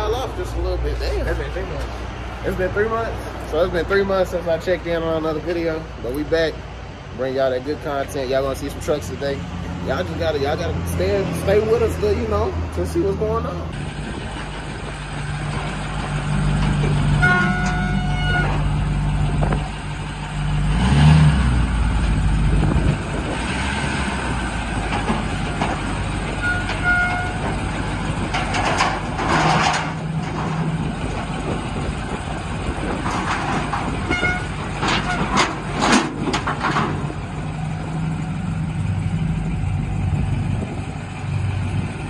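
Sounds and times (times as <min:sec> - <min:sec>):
diesel truck engine running: 0:00.0 - 0:42.0.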